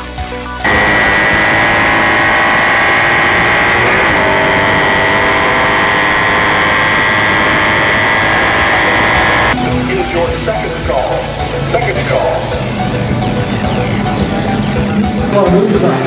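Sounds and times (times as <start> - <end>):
motorcycle engine running: 0.6 - 16.0.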